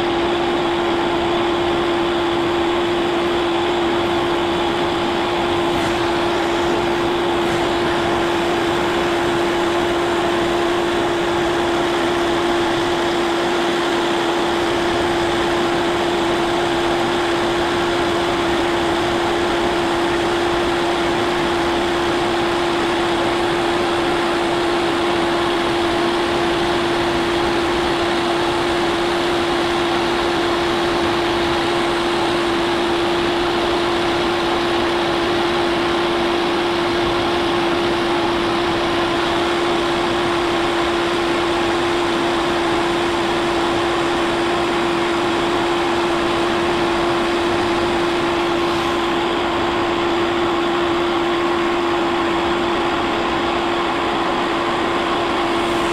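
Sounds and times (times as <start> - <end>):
milling machine cutting metal: 0.0 - 55.9.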